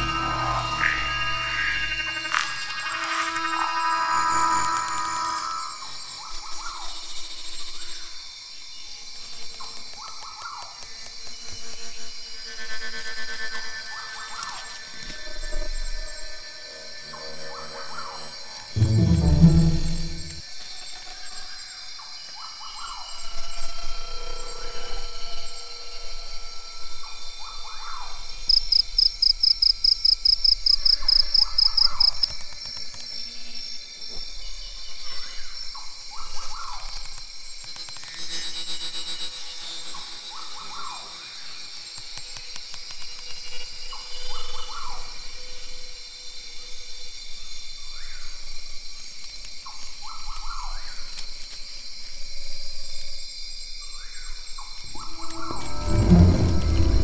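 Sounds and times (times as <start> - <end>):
cricket chirping: 0.0 - 57.0
night insect hum: 0.0 - 57.0.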